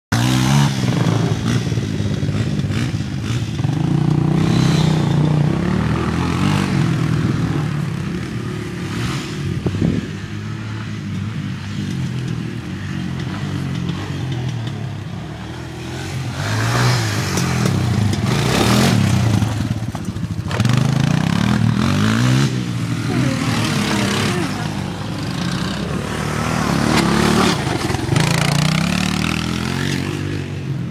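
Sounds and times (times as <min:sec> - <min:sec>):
small atv engine revving: 0:00.1 - 0:10.2, 0:15.4 - 0:30.5.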